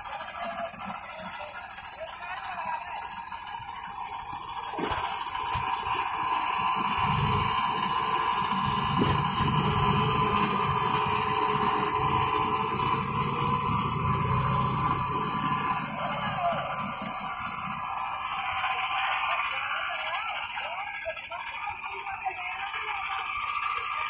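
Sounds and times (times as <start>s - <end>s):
tractor diesel engines under load: 0.0s - 24.0s.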